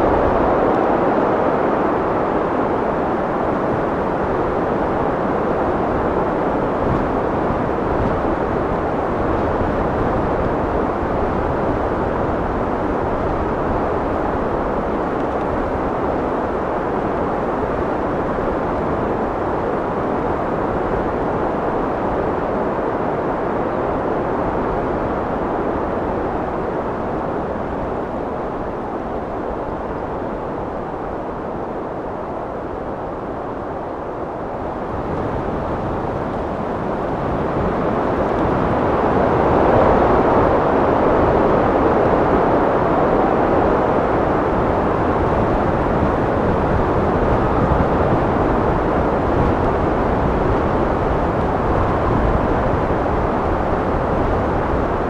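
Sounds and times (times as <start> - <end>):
wind blowing steadily: 0.0 - 55.0.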